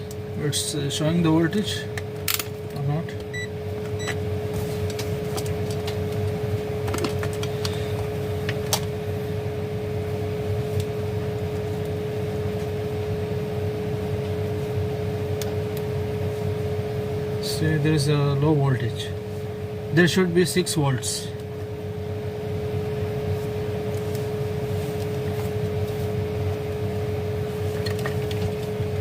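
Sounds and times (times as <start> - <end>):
machine hum with steady tone: 0.0 - 29.0.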